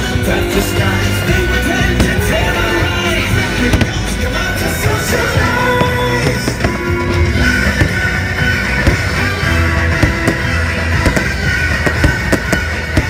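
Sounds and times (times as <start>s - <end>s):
rock music: 0.0s - 13.0s
firework bangs: 0.1s - 13.0s.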